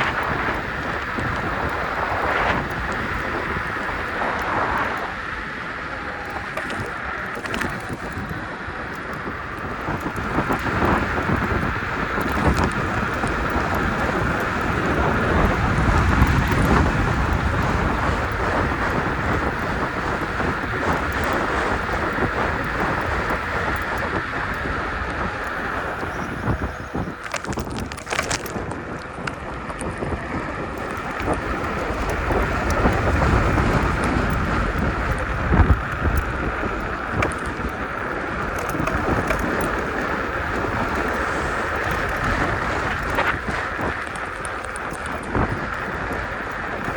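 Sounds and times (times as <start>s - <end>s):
scooter ride rumble: 0.0s - 46.9s
wind buffeting microphone: 0.0s - 46.9s.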